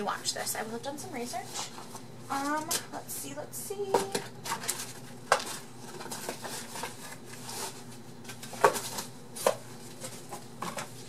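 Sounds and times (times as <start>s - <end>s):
rummaging in cardboard box: 0.0s - 3.0s, 3.7s - 11.0s.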